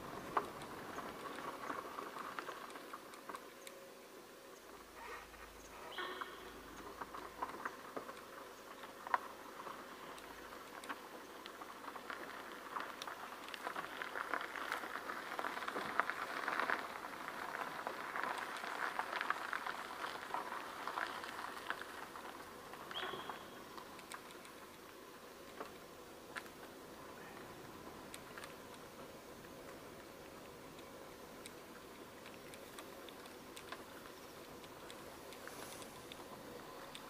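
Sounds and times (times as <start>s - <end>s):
dry leaves and twigs crackling: 0.0s - 37.0s.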